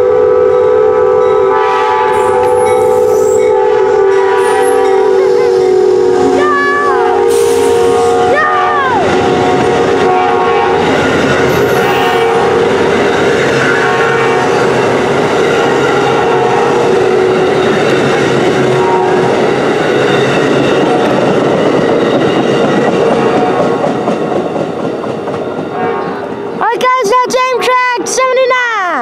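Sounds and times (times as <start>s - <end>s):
steady tones: 0.0s - 29.0s
train wheels rolling on rails: 1.2s - 28.4s.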